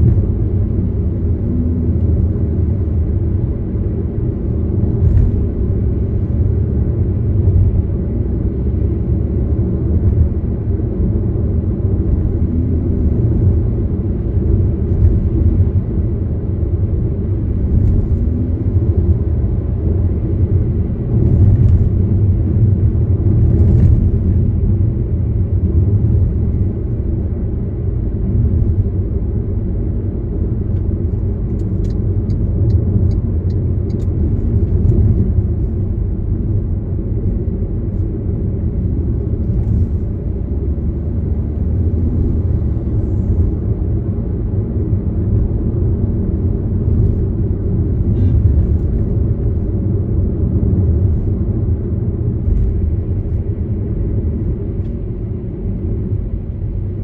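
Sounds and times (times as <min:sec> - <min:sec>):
car driving low rumble: 0:00.0 - 0:57.0.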